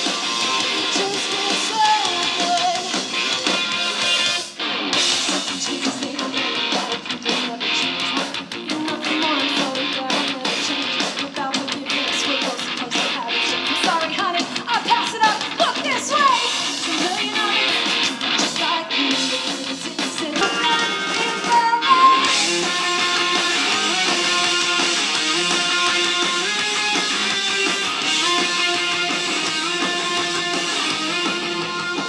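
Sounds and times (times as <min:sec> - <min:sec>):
live rock band electric guitars: 0:00.0 - 0:32.0.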